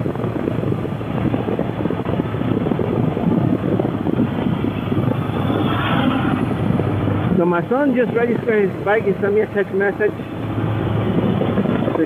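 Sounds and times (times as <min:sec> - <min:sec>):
motorcycle running: 0:00.0 - 0:12.0
wind buffeting microphone: 0:00.0 - 0:12.0.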